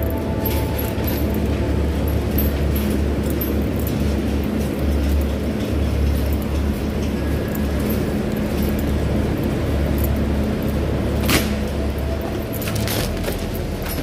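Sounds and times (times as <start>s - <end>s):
metal cart rolling and rattling: 0.0s - 14.0s.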